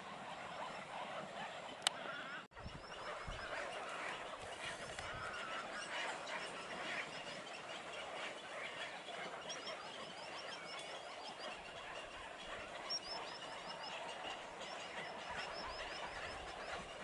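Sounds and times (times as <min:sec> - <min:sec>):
waterbirds calling: 0:00.0 - 0:17.0.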